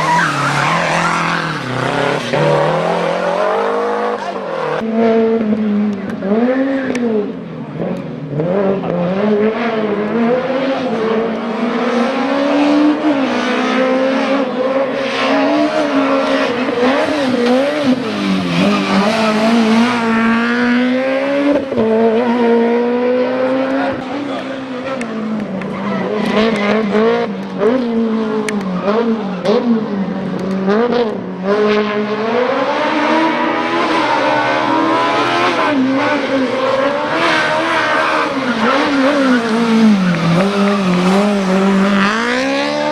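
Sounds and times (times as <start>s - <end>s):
race car engine at high revs: 0.0s - 42.9s.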